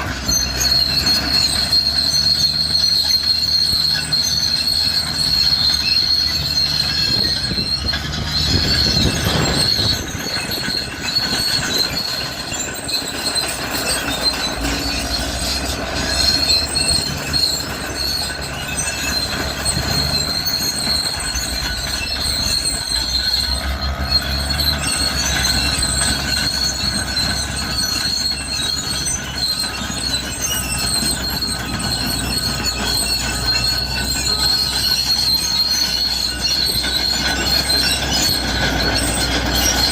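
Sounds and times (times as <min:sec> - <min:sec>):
bulldozer tracks squealing: 0:00.0 - 0:39.9
diesel engine running: 0:00.0 - 0:39.9.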